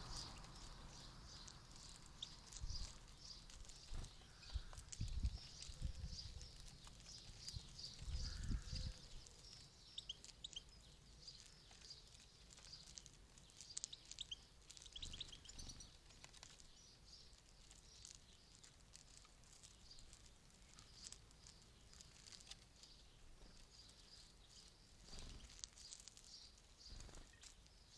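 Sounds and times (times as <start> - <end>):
songbird chirps and twittering: 0.0 - 27.9.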